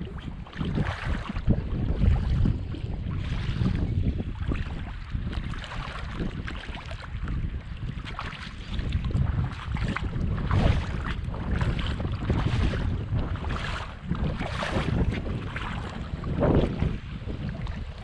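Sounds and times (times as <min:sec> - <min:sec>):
waves washing on shore: 0:00.0 - 0:18.0
wind on microphone: 0:00.0 - 0:18.0.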